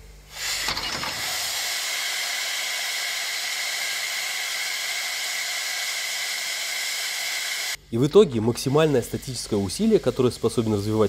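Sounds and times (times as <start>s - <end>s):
steam hissing: 0.0s - 7.8s, 8.6s - 11.0s.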